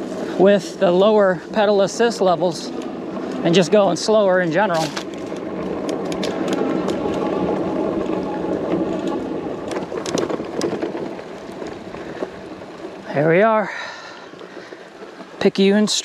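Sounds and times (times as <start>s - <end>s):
bike tires rolling on dirt: 0.0s - 16.0s.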